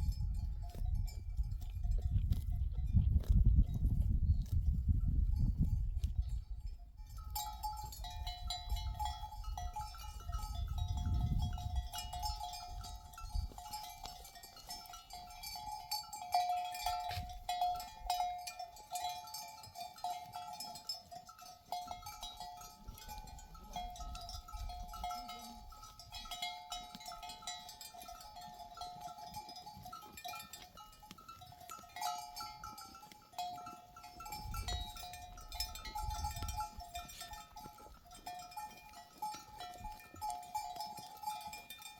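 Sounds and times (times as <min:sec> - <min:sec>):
sheep bells clinking: 0:00.0 - 0:41.9.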